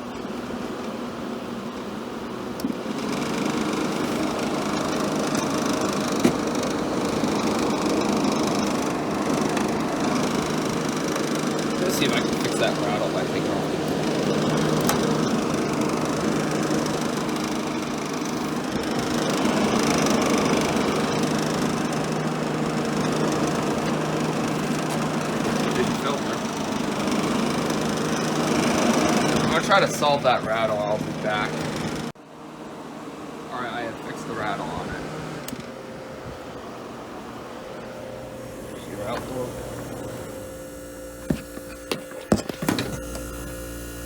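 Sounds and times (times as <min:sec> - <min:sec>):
air conditioner humming: 0:00.0 - 0:44.0.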